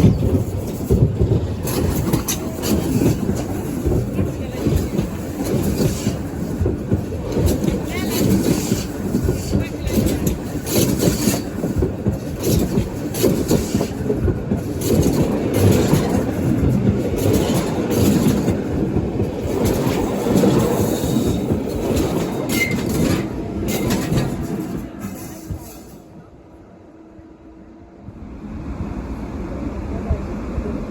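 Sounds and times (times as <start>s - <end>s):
train wheels clattering: 0.0s - 26.2s.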